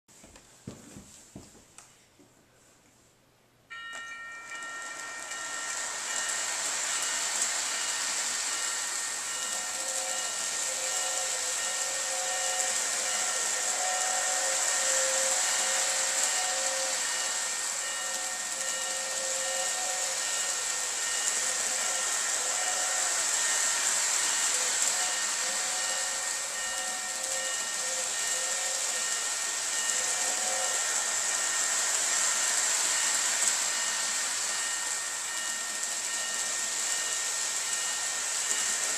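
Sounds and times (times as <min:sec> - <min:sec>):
toy train hissing and whining: 0:03.7 - 0:38.9.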